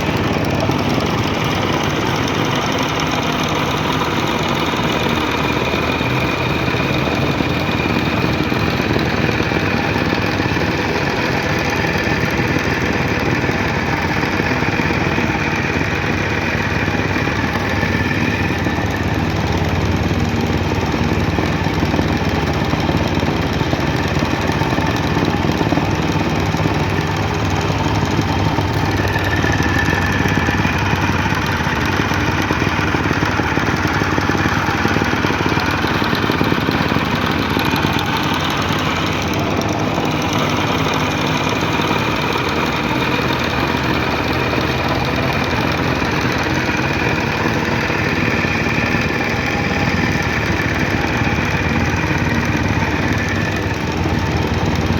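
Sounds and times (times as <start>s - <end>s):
soil compactor running: 0.0s - 54.9s.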